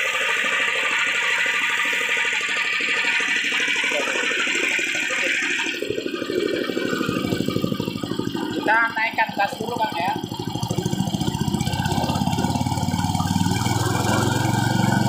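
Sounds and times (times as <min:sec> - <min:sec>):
small petrol engine beating: 0:00.0 - 0:15.0.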